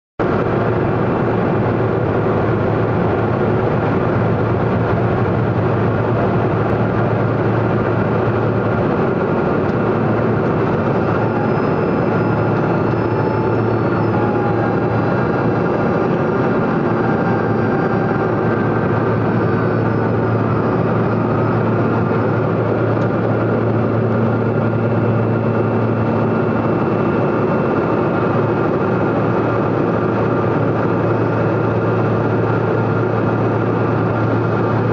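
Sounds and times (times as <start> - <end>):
turboprop engine drone: 0.2 - 34.9.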